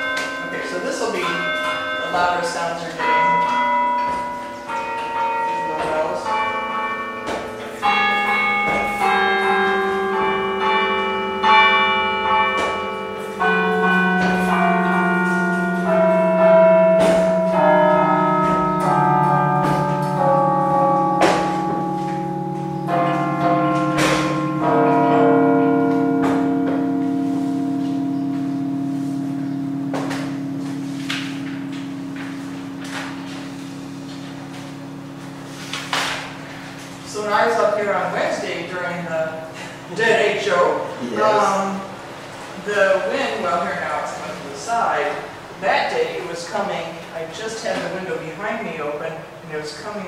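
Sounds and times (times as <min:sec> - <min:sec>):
carillon bells ringing: 0:00.0 - 0:42.0.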